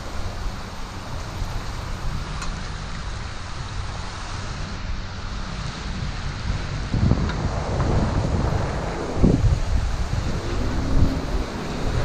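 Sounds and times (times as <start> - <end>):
surf churning around pilings: 0.0 - 12.0
wind buffeting microphone: 0.0 - 12.0.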